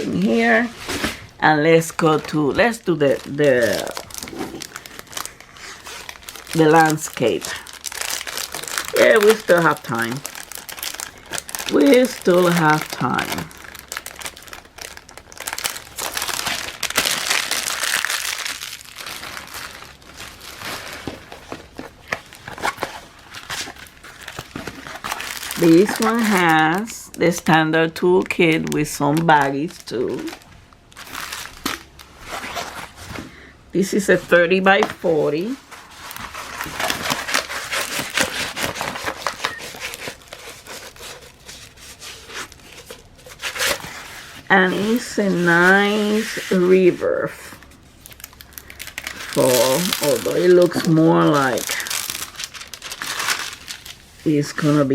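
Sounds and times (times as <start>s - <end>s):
packaging crinkling and rustling: 0.0s - 33.4s, 34.1s - 54.9s.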